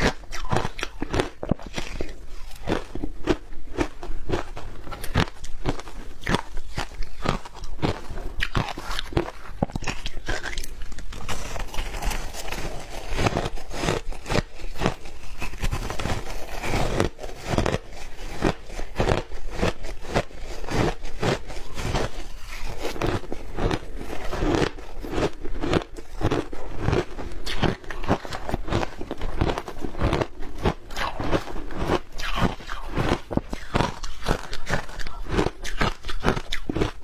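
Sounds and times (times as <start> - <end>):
ice being chewed with crunches: 0.0 - 37.0.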